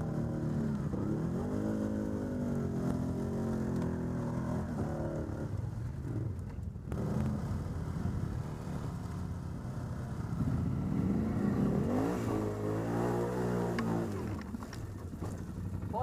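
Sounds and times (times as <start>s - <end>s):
atv engine revving: 0.0s - 8.6s, 9.7s - 16.0s.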